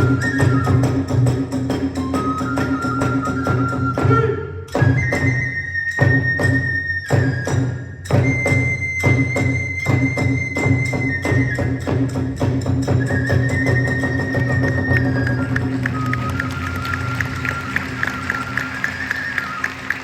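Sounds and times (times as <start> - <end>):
drum beats: 0.0 - 5.4, 7.4 - 20.0
bamboo flute long high notes: 0.0 - 12.2, 12.8 - 20.0.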